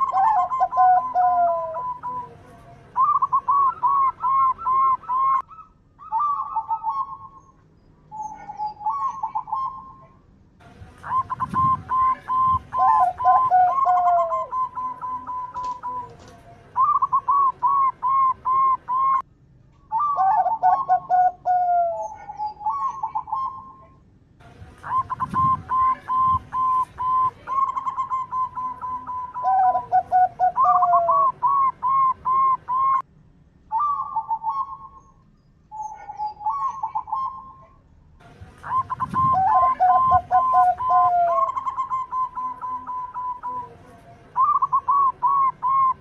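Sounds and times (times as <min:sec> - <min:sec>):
doves cooing: 0:00.0 - 0:07.5, 0:08.1 - 0:10.1, 0:11.0 - 0:19.2, 0:19.9 - 0:23.9, 0:24.8 - 0:33.0, 0:38.6 - 0:46.0.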